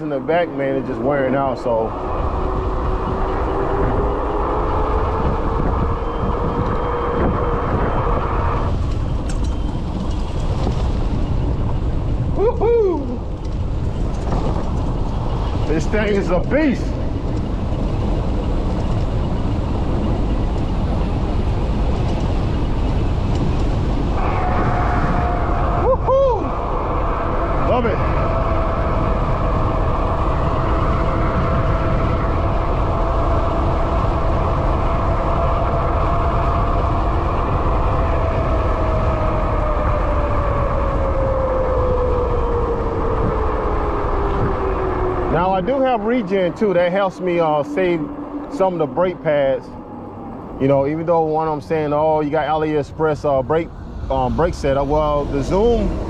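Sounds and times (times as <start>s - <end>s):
tires rumbling on road: 0.0s - 56.0s
wind buffeting microphone: 0.0s - 56.0s.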